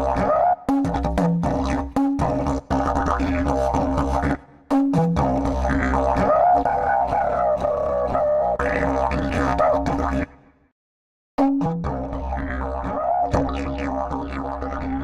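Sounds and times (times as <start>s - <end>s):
didgeridoo drone: 0.0s - 10.3s, 11.6s - 15.0s.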